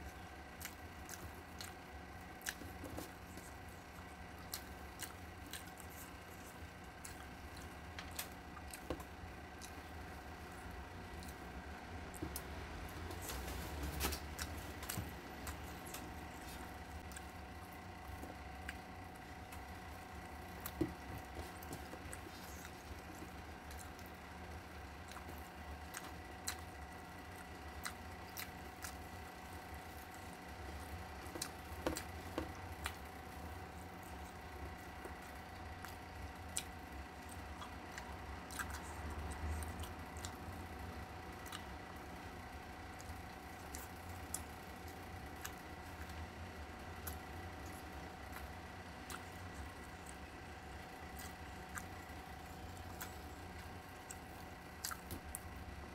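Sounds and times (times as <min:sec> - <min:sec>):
chewing and mouth noises: 0:00.0 - 0:42.3, 0:42.9 - 0:55.7
steady hum: 0:00.0 - 0:55.9.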